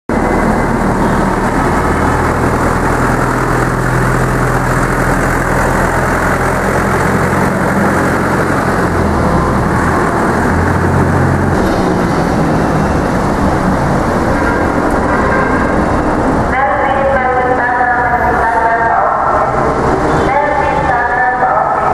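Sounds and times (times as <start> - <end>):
truck engine idling: 0.1 - 20.4.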